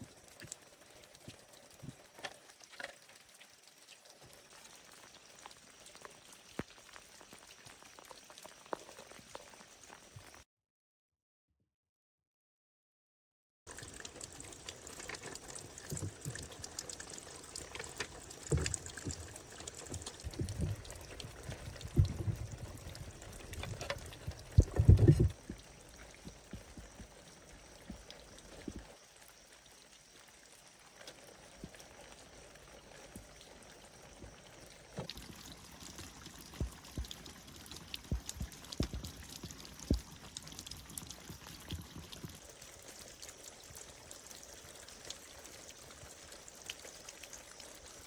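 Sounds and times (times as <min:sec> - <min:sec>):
water pouring and splashing: 0:00.0 - 0:10.4, 0:13.7 - 0:48.0.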